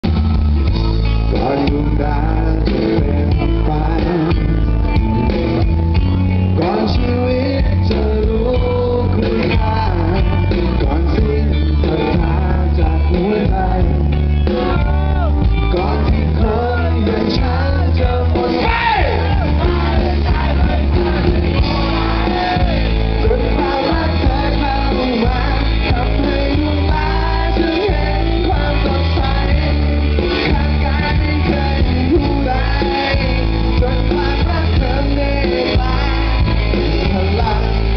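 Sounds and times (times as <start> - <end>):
drums: 0.0 - 37.9
electric guitar: 0.0 - 37.9
heavy bass line: 0.0 - 37.9
man singing: 1.2 - 37.9.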